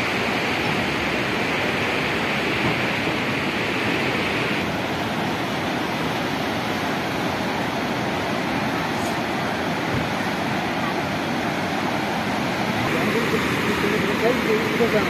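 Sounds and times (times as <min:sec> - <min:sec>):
whitewater rushing over rocks: 0:00.0 - 0:15.0.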